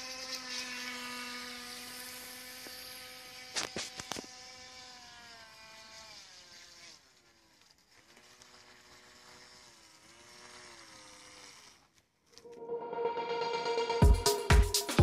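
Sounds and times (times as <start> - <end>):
small electric motor whining: 0.0 - 12.4.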